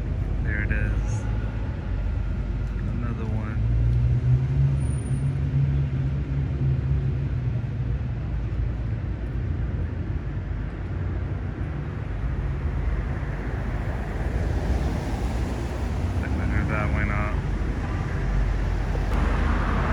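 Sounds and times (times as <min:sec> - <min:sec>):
road noise: 0:00.0 - 0:19.9.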